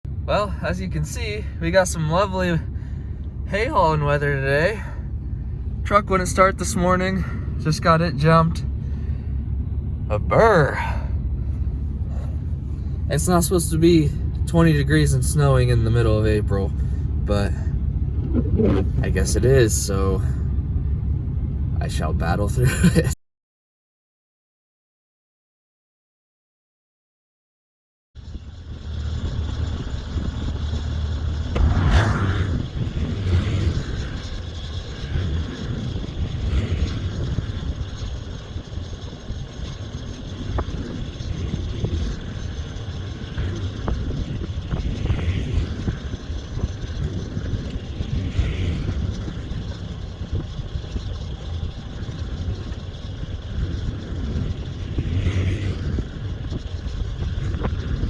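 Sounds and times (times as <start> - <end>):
engine and road noise: 0.0 - 23.2, 28.2 - 58.0.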